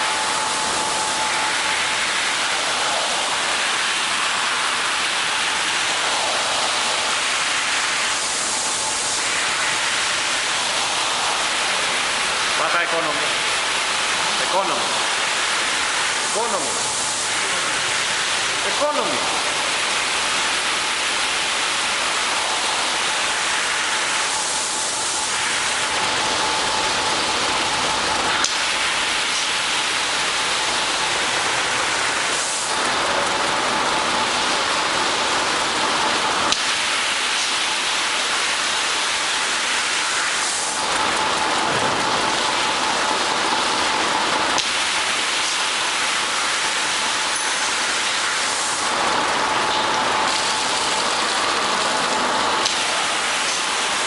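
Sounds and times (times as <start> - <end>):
machine humming: 0.0 - 54.0
water spray hissing on rug: 0.0 - 54.0.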